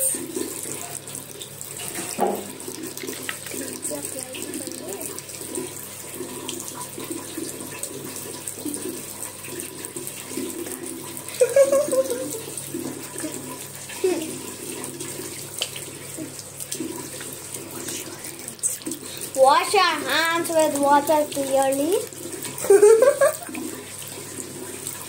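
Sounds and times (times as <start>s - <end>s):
tap water splashing: 0.0s - 25.0s.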